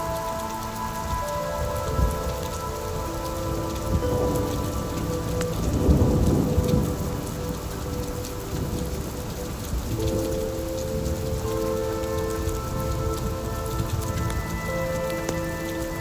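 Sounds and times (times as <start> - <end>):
low thunder rumble: 0.0 - 16.0
rain falling: 0.0 - 16.0
sharp crackles: 0.0 - 16.0.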